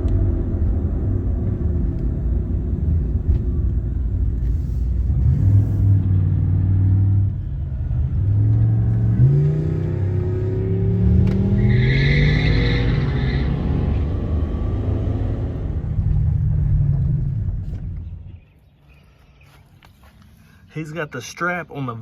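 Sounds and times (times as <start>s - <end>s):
vehicle engine accelerating: 0.0s - 18.6s.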